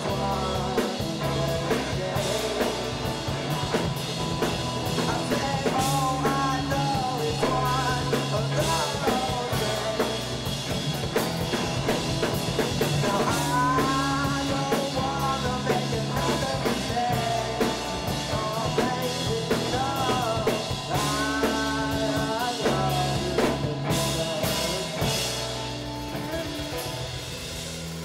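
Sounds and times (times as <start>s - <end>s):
young man singing: 0.0s - 27.0s
live rock band playing: 0.0s - 28.0s.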